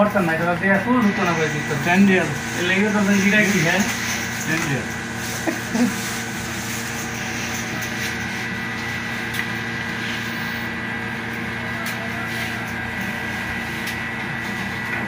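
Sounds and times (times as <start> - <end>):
mechanical hum with high whine: 0.0 - 15.0.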